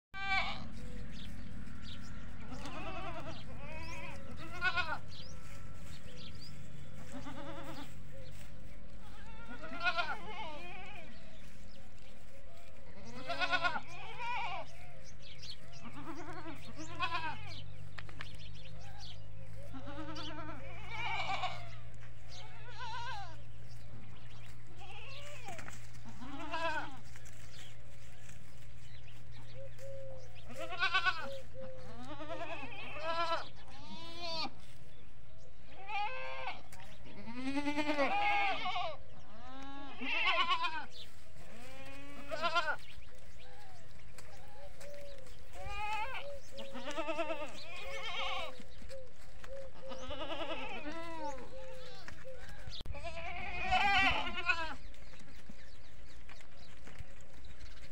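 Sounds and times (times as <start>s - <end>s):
goats bleating: 0.1s - 29.0s, 30.3s - 34.8s, 35.7s - 57.4s.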